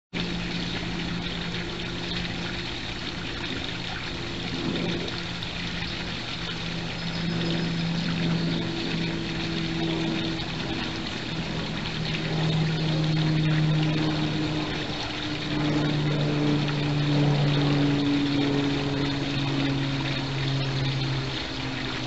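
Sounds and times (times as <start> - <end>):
low motor hum: 0.1 - 22.0
water trickling: 0.2 - 22.0.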